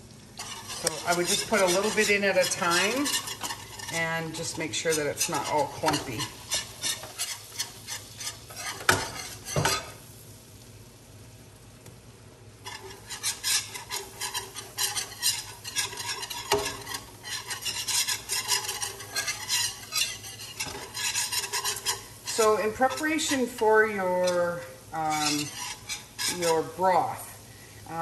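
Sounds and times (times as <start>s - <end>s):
butter sizzling: 0.0s - 28.0s
whisk scraping metal pan: 0.4s - 10.0s, 12.6s - 27.3s.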